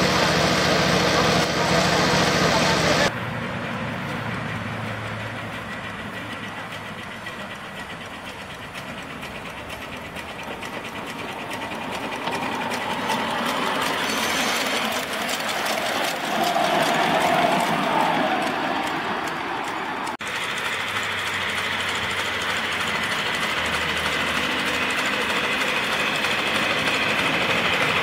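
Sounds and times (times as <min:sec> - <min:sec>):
steam locomotive ticking: 0:04.1 - 0:28.0.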